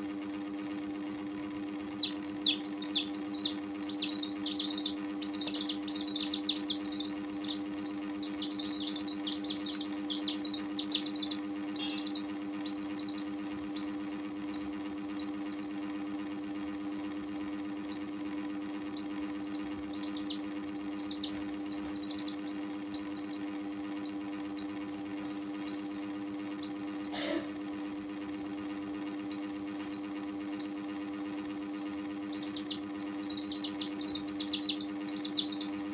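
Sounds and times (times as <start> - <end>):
steady low hum: 0.0 - 35.9
baby chicks peeping: 0.6 - 35.9.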